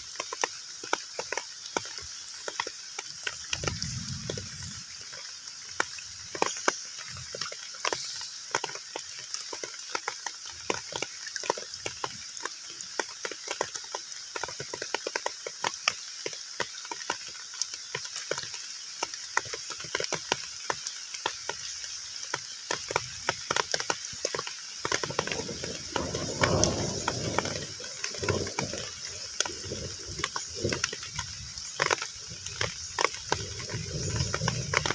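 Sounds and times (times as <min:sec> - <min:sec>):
rain splashing on pond: 0:00.0 - 0:34.9
rush of water: 0:00.0 - 0:34.9.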